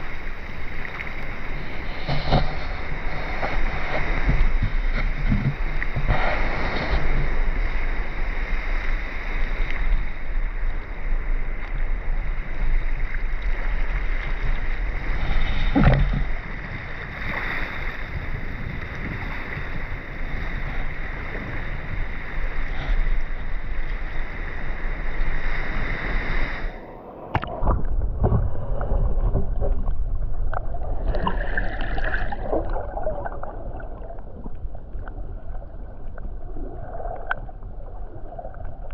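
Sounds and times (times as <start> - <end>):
underwater sea surge: 0.0 - 38.9.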